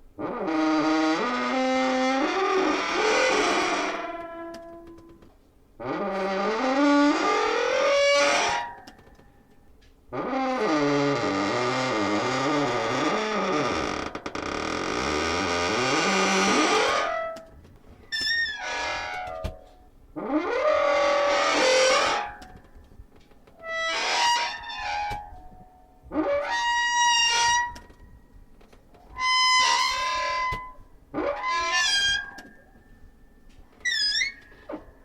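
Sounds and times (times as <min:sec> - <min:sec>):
creaky door hinge squealing: 0:00.2 - 0:09.2, 0:10.2 - 0:22.7, 0:23.6 - 0:25.6, 0:29.1 - 0:33.1, 0:33.8 - 0:35.0.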